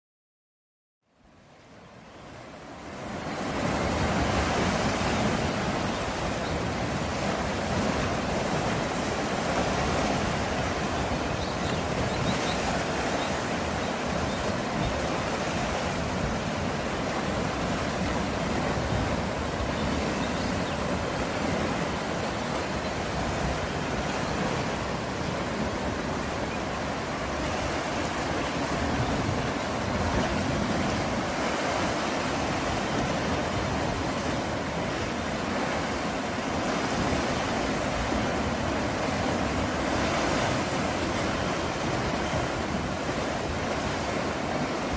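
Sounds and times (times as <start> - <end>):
waves breaking on rocky shore: 2.2 - 44.9.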